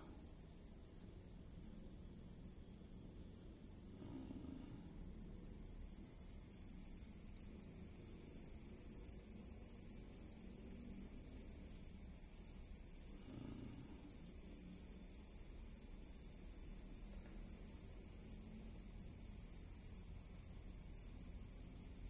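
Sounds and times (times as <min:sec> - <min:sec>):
high-pitched insect trill: 0:00.0 - 0:22.0.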